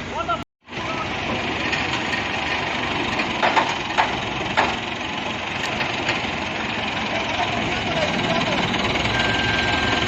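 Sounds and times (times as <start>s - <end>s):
heavy machine engine running: 0.7s - 10.0s.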